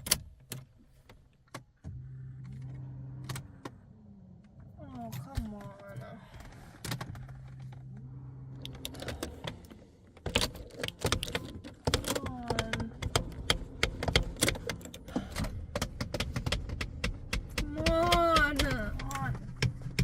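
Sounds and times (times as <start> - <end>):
ignition key and pedals clicking: 0.0 - 3.8, 4.4 - 20.0.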